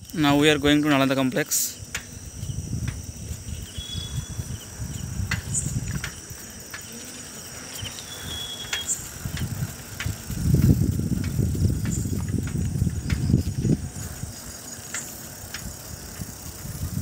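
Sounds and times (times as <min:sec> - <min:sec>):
bicycle clicks and rattles: 0:00.0 - 0:17.0
crickets chirring: 0:00.0 - 0:17.0
wind and tyre rumble: 0:00.0 - 0:17.0.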